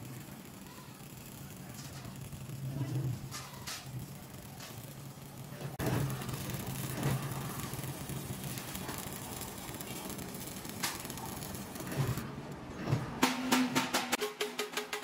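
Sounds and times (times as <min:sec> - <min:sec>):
welding arc crackling: 0:00.0 - 0:12.7.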